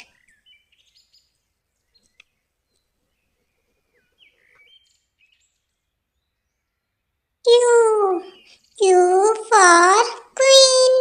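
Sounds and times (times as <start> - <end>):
faint bird chirps: 0.0 - 10.9.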